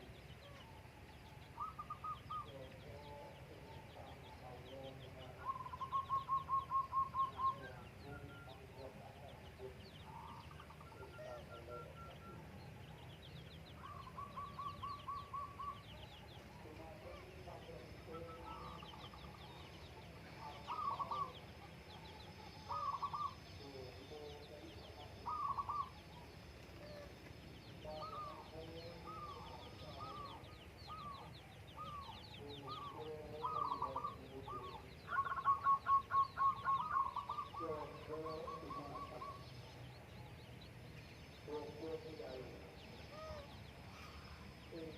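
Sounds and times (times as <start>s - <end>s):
dove cooing: 0.0s - 40.3s, 41.4s - 44.9s
birds calling: 0.0s - 44.9s.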